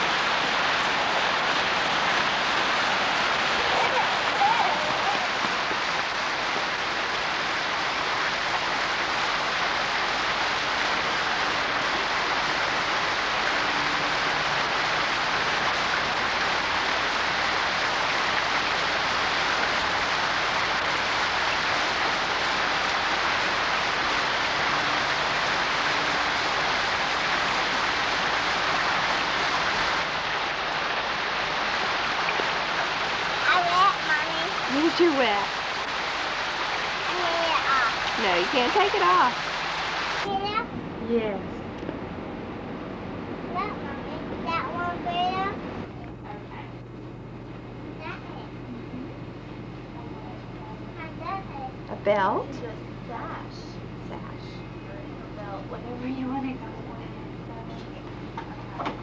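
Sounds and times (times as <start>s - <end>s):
fountain water splashing: 0.0s - 42.7s, 43.4s - 46.8s, 47.8s - 49.1s, 49.9s - 59.0s.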